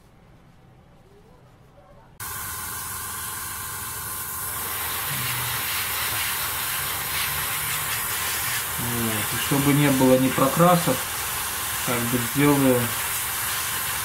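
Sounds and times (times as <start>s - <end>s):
airbrush hissing: 2.2s - 14.0s.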